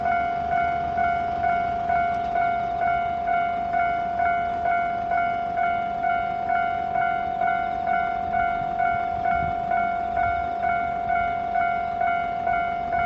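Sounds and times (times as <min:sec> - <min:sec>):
railroad crossing bell ringing: 0:00.0 - 0:13.0.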